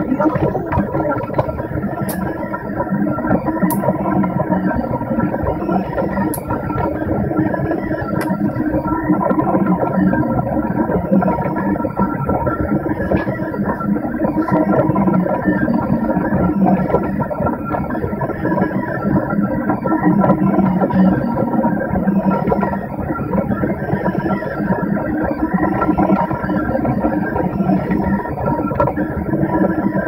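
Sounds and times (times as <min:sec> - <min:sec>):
motors whining: 0:00.0 - 0:30.0.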